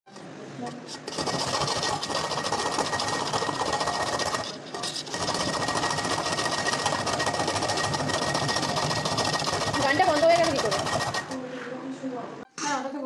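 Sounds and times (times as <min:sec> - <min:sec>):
carrots grated on metal grater: 0:00.1 - 0:11.4.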